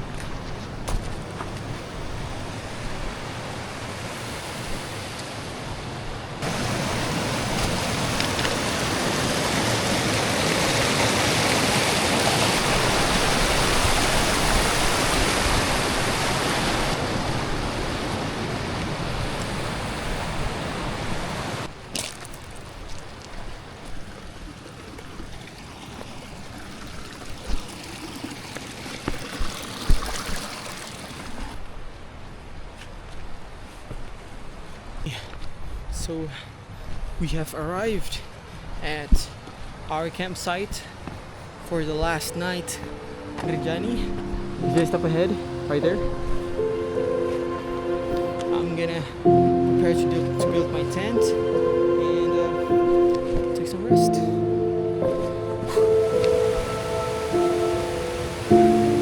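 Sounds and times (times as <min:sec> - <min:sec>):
rushing water roar: 0:00.0 - 0:32.7, 0:38.2 - 0:59.0.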